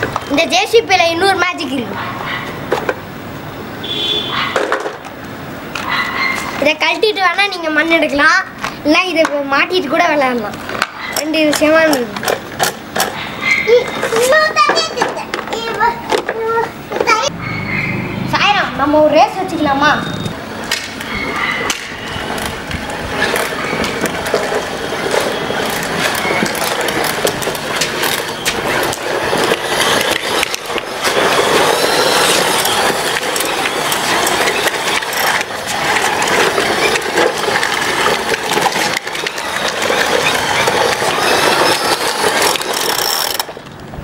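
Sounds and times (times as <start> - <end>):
toy truck wheels rolling on concrete: 0.0 - 3.0, 3.8 - 17.4, 18.4 - 44.0.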